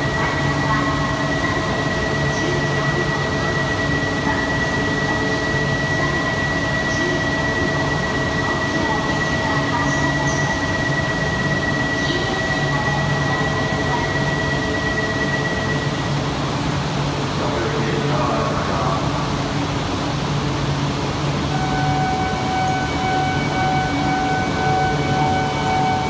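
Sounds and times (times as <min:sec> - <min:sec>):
high-pitched whine: 0:00.0 - 0:19.7, 0:20.6 - 0:26.0
train equipment low hum: 0:00.0 - 0:26.0.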